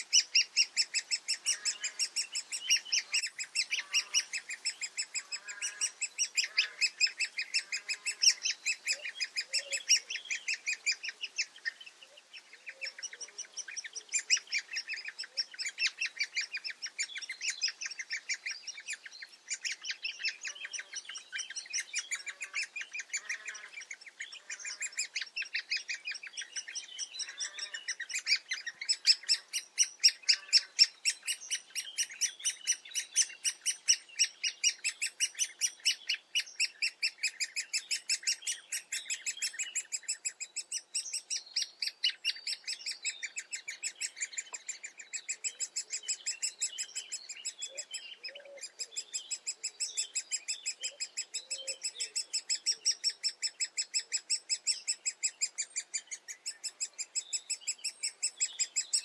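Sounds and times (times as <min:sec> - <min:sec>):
woodpecker nestlings begging calls: 0:00.0 - 0:59.0.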